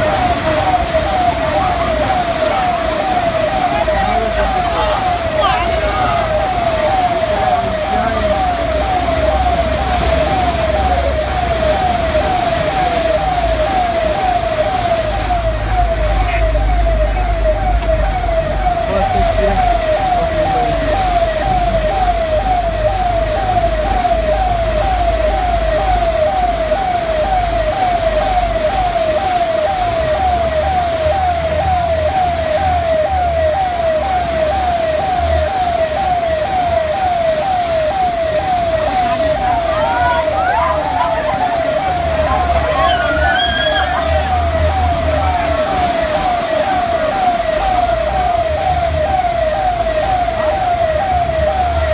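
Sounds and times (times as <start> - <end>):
siren falling tone: 0.0 - 51.9.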